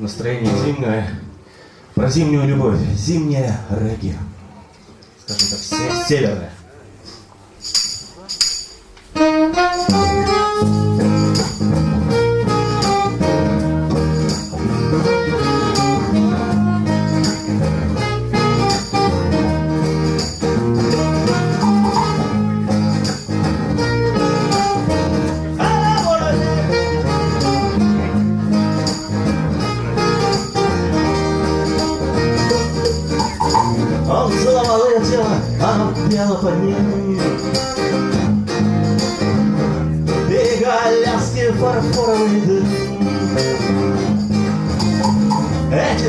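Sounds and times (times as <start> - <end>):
live reggae band playing: 4.7 - 46.0.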